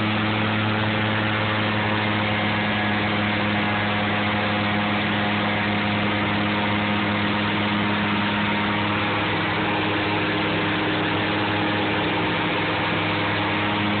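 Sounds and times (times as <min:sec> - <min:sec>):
aircraft engine and propeller drone: 0:00.0 - 0:14.0.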